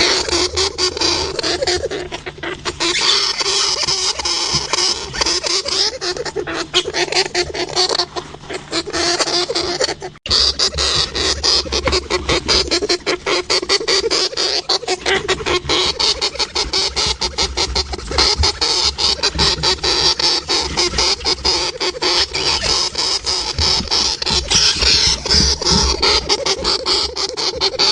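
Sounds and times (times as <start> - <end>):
hamster clicks and squeaks: 0.0 - 27.9.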